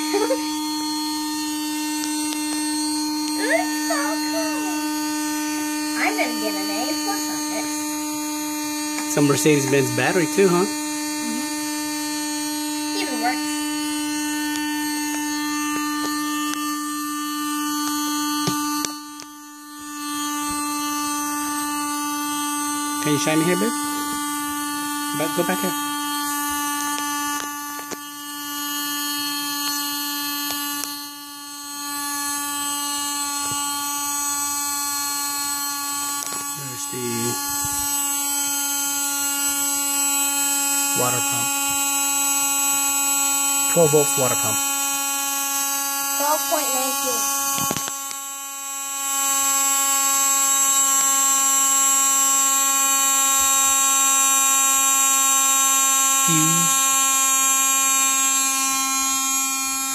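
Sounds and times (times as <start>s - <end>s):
water pump motor whining: 0.0s - 59.9s.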